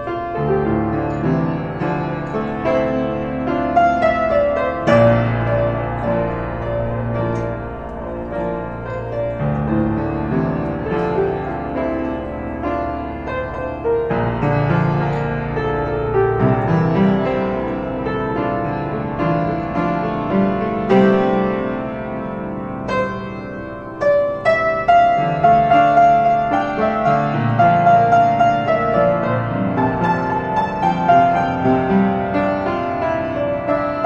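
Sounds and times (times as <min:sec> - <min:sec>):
piano chords over bass notes: 0:00.0 - 0:34.0.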